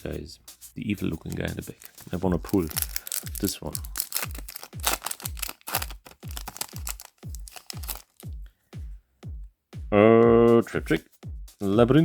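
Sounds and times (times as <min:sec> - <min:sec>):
electronic music kick-drum beat: 0:00.0 - 0:12.0.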